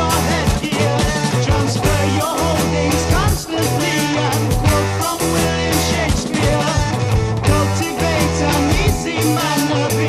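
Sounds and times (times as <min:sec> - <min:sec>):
rock band playing: 0:00.0 - 0:10.0.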